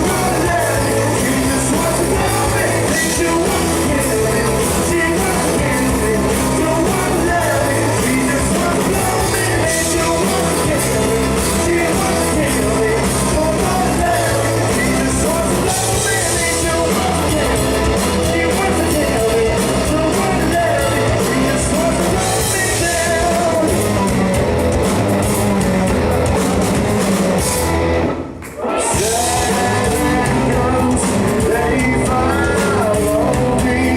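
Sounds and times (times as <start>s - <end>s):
person singing: 0.0s - 24.3s, 28.6s - 33.9s
rock band playing live: 0.0s - 33.9s.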